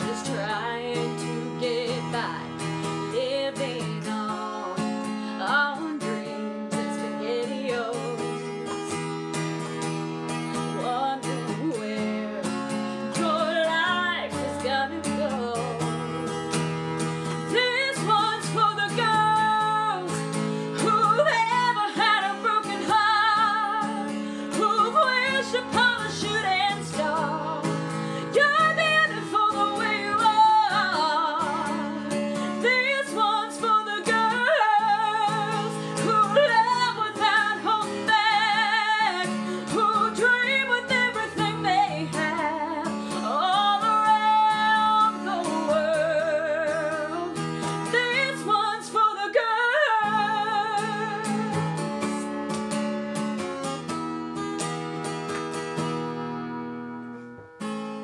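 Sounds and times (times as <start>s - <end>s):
woman singing country song: 0.0s - 57.0s
acoustic guitar strumming: 0.0s - 58.0s.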